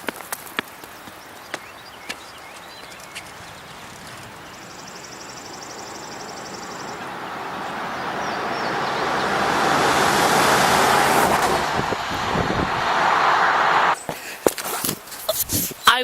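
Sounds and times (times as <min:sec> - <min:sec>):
van engine and tyre noise: 0:00.0 - 0:15.8.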